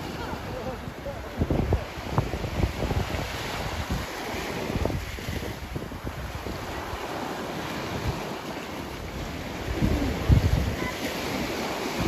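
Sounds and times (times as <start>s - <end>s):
sea surf washing onto beach: 0.0s - 12.0s
wind buffeting microphone: 0.0s - 12.0s.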